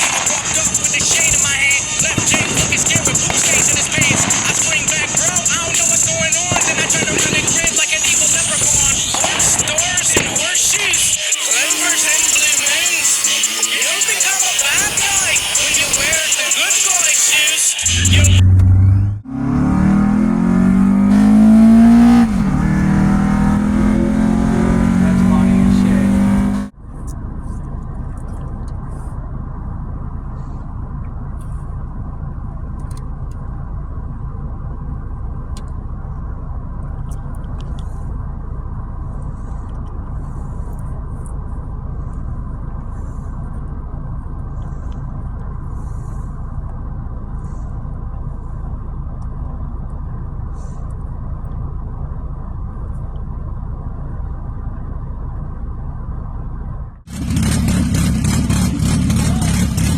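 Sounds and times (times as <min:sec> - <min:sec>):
car engine lopey idle: 0:00.0 - 0:19.3, 0:20.8 - 0:59.9.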